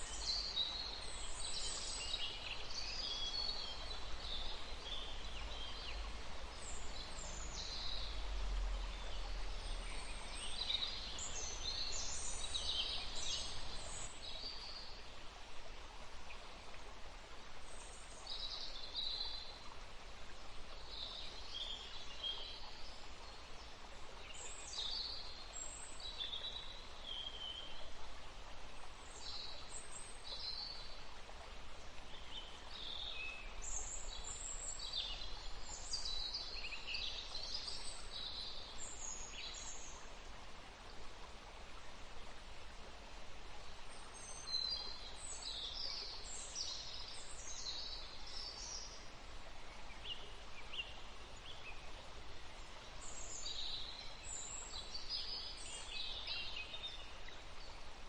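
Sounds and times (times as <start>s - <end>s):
outdoor background hiss: 0.0s - 58.0s
small songbirds chirping: 0.0s - 58.0s.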